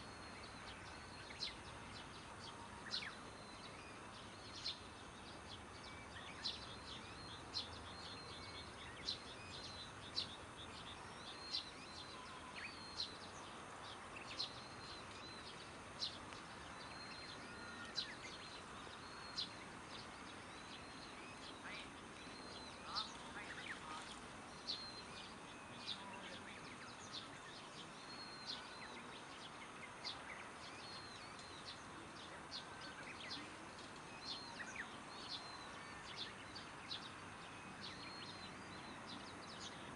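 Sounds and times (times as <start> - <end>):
bird chirping: 0.0 - 39.9
outdoor background noise: 0.0 - 39.9.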